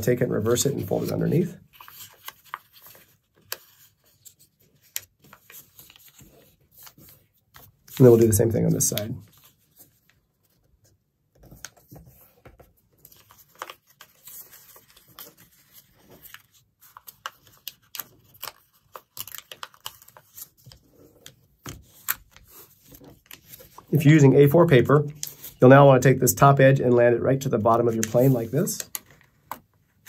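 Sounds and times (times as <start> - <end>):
paper folding and creasing: 0.0 - 26.6, 27.2 - 30.0.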